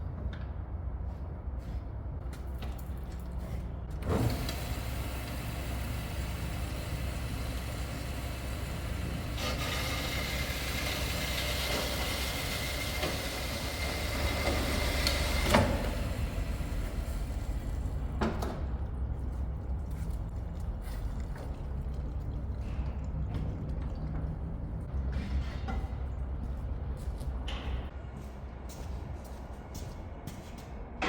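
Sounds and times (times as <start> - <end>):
machine low hum: 3.2 - 31.0.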